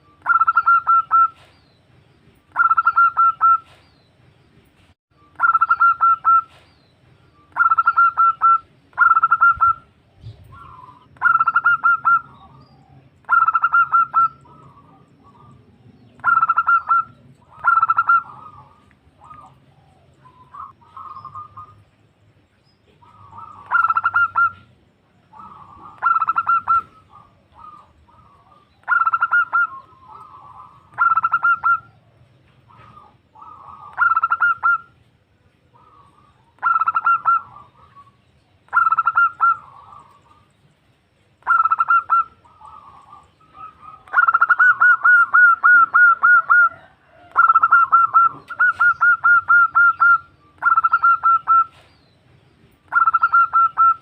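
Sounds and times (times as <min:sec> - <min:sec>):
dove cooing: 0:00.0 - 0:01.5, 0:02.5 - 0:03.8, 0:05.4 - 0:06.6, 0:07.5 - 0:21.9, 0:22.9 - 0:35.0, 0:35.7 - 0:40.5, 0:41.4 - 0:52.0, 0:52.9 - 0:54.0.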